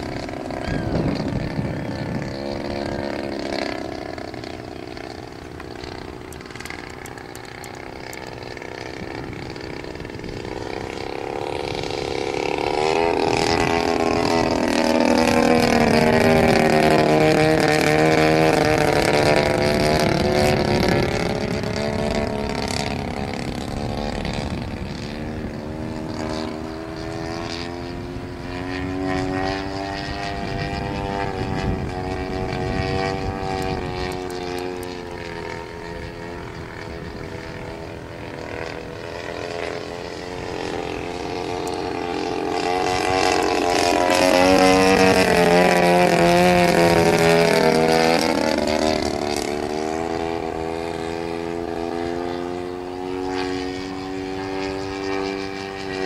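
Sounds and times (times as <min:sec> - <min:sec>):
model airplane engine and propeller: 0:00.0 - 0:56.0.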